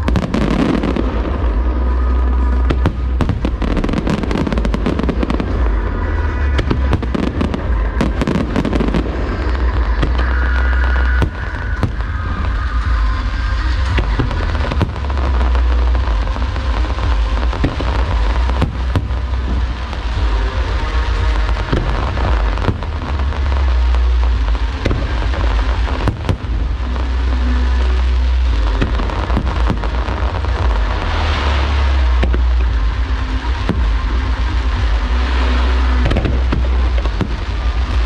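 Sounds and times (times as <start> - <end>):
fireworks booming: 0.0 - 38.0
fireworks cracking: 0.0 - 38.0.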